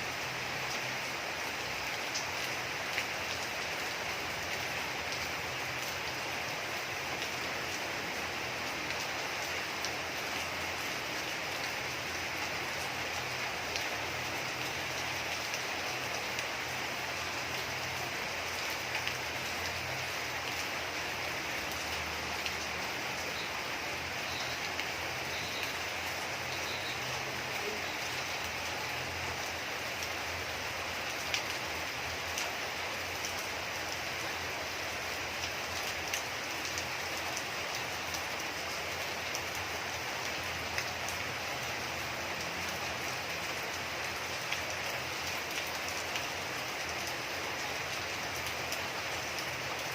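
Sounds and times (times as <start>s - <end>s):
raindrops ticking on surface: 0.0s - 49.9s
steady rain hiss: 0.0s - 49.9s.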